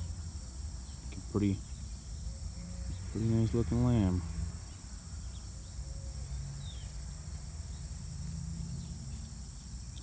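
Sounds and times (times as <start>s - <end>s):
insect chorus trilling: 0.0s - 10.0s.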